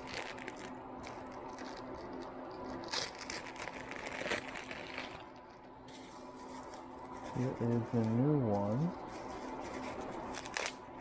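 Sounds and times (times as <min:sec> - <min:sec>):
faint steady hum: 0:00.0 - 0:11.0
plastic packaging crinkling: 0:00.0 - 0:11.0.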